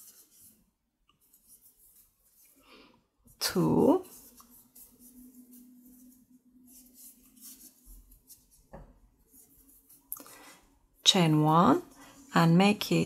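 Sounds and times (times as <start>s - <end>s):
crochet hook rustling yarn: 0.0s - 13.0s.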